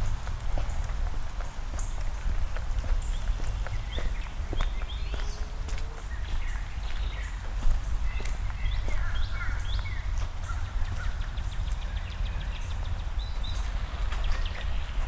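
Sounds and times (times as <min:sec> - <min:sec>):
footsteps on wet pavement: 0:00.0 - 0:15.0
songbirds chirping: 0:00.0 - 0:15.0.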